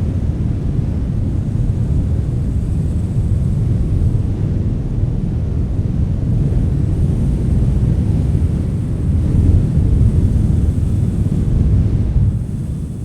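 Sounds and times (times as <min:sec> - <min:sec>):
strong gusty wind: 0:00.0 - 0:13.0.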